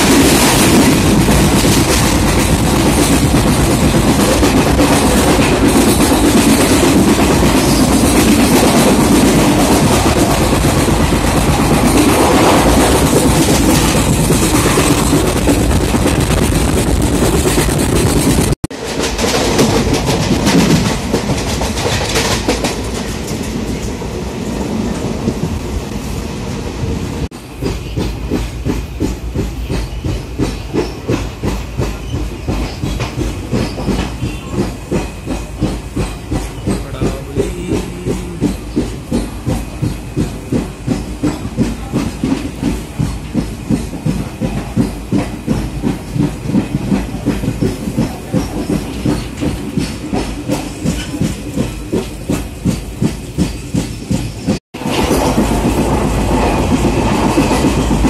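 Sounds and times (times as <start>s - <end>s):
train running noise and wind: 0.0s - 58.0s
train wheels clickety-clack: 0.0s - 58.0s.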